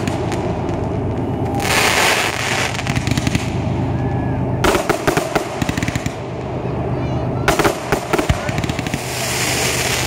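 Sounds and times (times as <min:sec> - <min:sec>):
fireworks bangs and crackles: 0:00.0 - 0:10.0
rumble of fireworks reports: 0:00.0 - 0:10.0.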